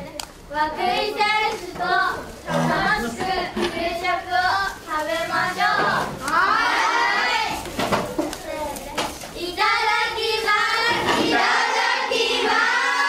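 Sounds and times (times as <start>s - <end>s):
children singing or chanting: 0.0s - 13.0s.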